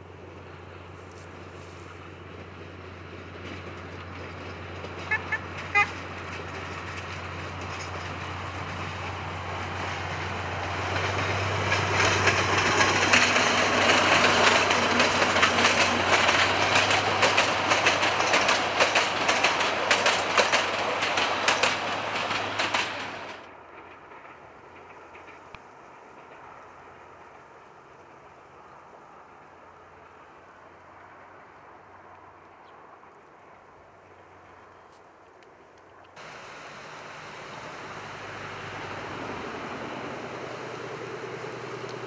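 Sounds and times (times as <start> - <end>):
train wheels clicking over rail joints: 0.2 - 28.7, 36.2 - 42.0.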